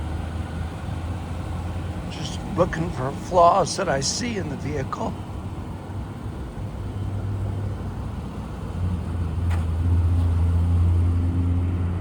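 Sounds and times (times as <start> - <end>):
engine idling: 0.0 - 9.8.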